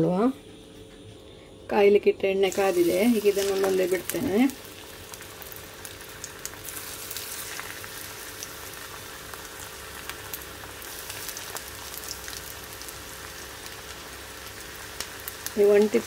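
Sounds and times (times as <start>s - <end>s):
crackles of frying oil: 2.1s - 16.0s
food deep-frying in hot oil: 2.4s - 16.0s.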